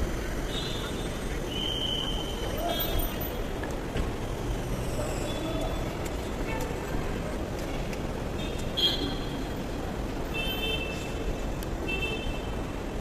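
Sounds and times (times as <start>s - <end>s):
car traffic: 0.0s - 13.0s.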